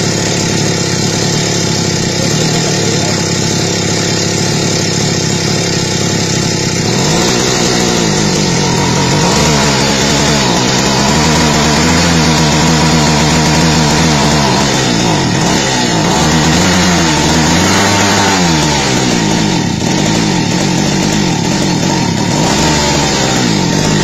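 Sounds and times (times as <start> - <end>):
brush-cutter engine revving: 0.0 - 24.0.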